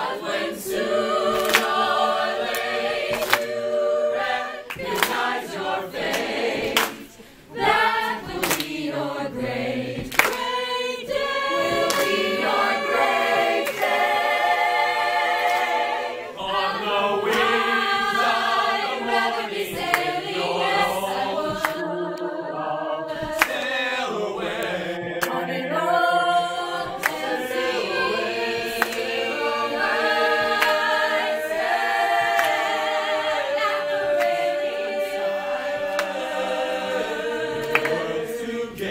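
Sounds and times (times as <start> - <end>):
choir singing unaccompanied: 0.0 - 38.9.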